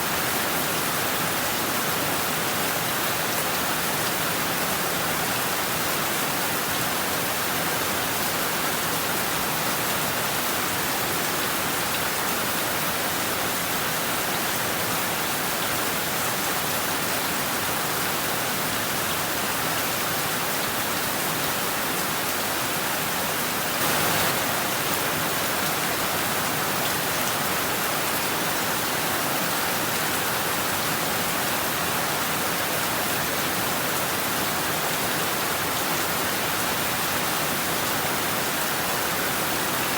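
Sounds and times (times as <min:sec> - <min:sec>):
heavy rain on rooftops and trees: 0:00.0 - 0:39.9.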